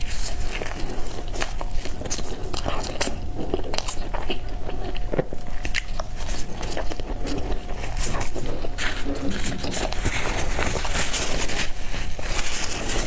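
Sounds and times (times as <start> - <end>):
person chewing bread: 0.0 - 13.0.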